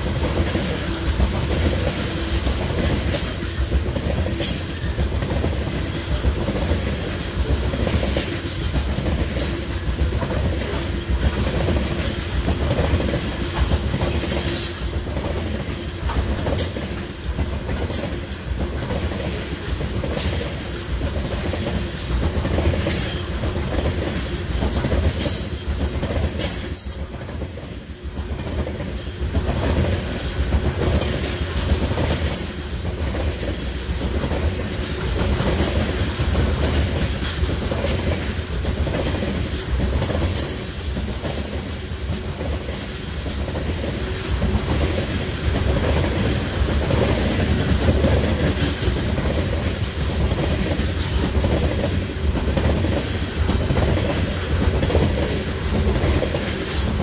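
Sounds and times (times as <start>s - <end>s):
train wheels clicking over rail joints: 0.0s - 57.0s.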